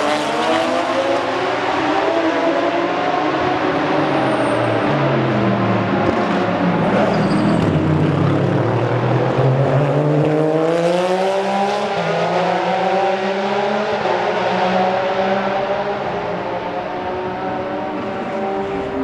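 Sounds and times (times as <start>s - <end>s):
racing car engine at high revs: 0.0s - 19.0s.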